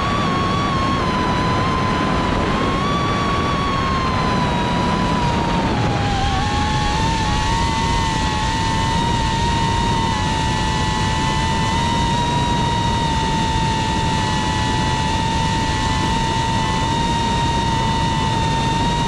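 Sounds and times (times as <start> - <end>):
drone propellers whining: 0.0 - 19.0
rushing noise: 0.0 - 19.0.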